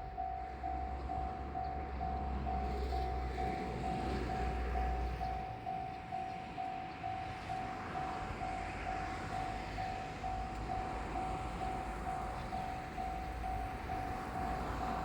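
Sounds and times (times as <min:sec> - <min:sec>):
level-crossing warning bell: 0:00.0 - 0:15.0.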